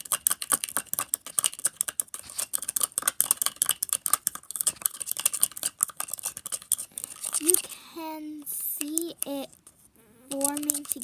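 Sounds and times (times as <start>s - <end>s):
tool scraping mixing bowl: 0.0s - 11.0s.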